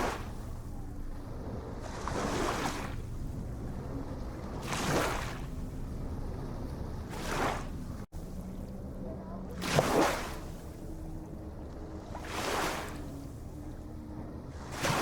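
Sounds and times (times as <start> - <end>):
low rumble of surf: 0.0 - 15.0
ocean waves breaking: 0.0 - 15.0.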